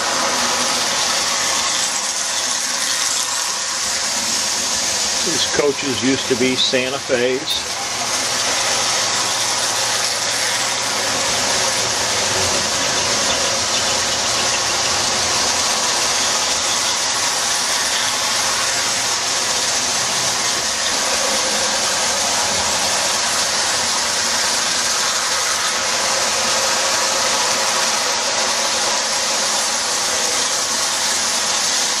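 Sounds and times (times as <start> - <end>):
toy train motor whirring on rails: 0.0 - 32.0.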